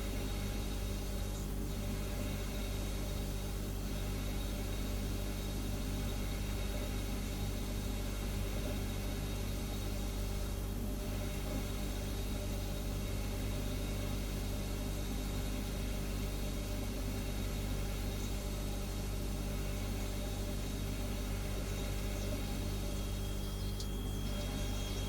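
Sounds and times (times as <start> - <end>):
refrigerator humming: 0.0 - 25.0.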